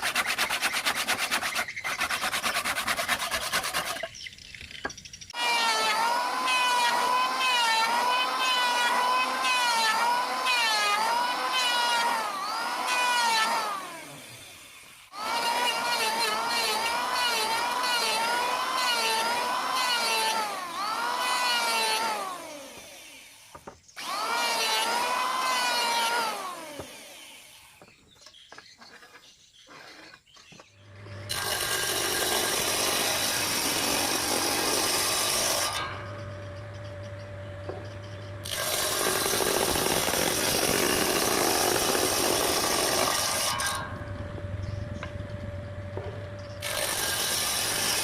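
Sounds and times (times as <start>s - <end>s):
table saw whining: 5.3s - 48.0s.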